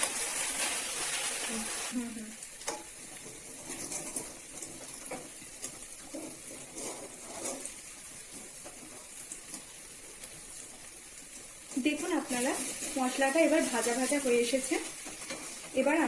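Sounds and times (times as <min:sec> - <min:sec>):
spice paste sizzling in oil: 0:00.0 - 0:16.0
spatula scraping and tapping pan: 0:02.6 - 0:16.0.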